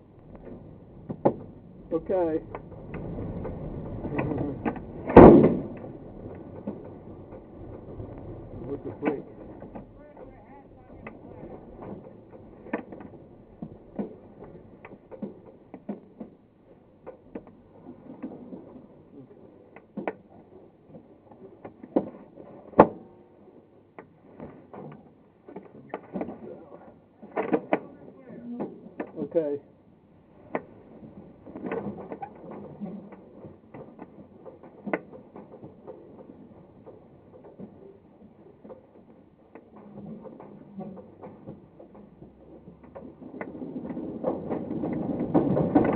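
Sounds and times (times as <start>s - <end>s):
glider airframe knocking and rattling: 0.0s - 45.9s.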